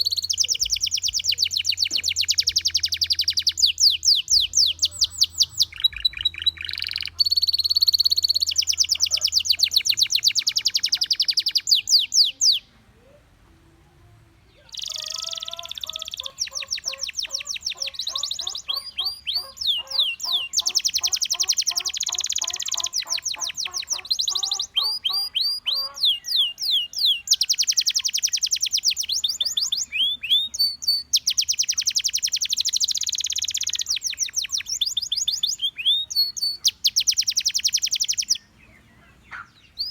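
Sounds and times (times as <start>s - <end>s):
canary singing trills: 0.0s - 13.4s, 14.5s - 39.9s.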